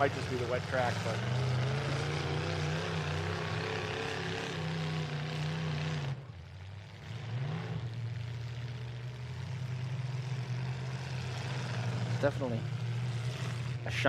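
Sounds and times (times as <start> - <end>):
engine revving: 0.0 - 14.0
truck engines droning: 0.0 - 14.0.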